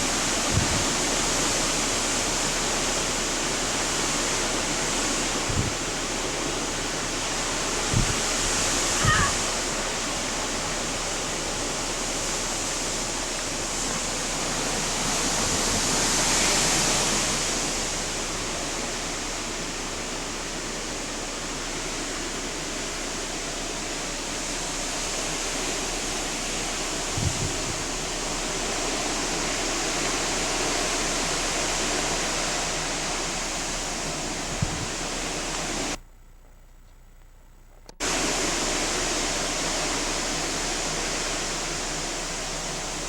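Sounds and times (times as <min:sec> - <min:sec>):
heavy rain: 0:00.0 - 0:36.0, 0:38.0 - 0:43.0
hurricane wind: 0:00.0 - 0:36.0, 0:38.0 - 0:43.0.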